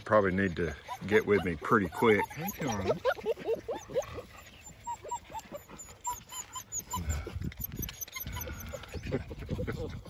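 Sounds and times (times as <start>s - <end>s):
puppies whining: 0.0s - 10.0s
puppies yipping and squeaking: 0.0s - 10.0s.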